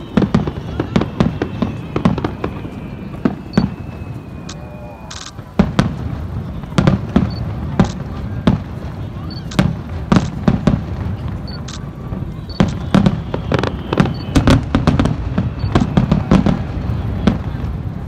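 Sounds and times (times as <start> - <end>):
descending firework whistle: 0.0 - 10.4, 11.4 - 18.0
fireworks bursting with sharp bangs: 0.0 - 18.0.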